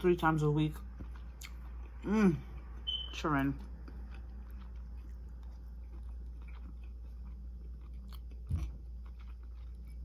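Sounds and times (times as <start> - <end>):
steady low hum: 0.0 - 10.0
wet chewing noises: 0.2 - 10.0.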